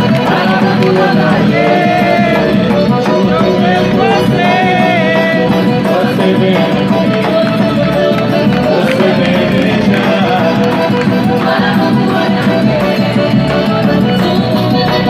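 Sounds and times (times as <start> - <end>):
loud folk dance music: 0.0 - 15.0.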